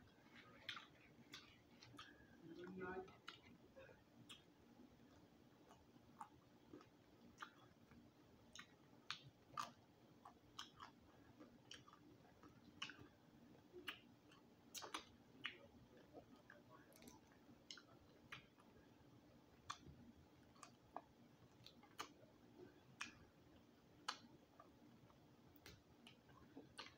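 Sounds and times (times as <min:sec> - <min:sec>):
faint chewing crunches: 0:00.0 - 0:26.9.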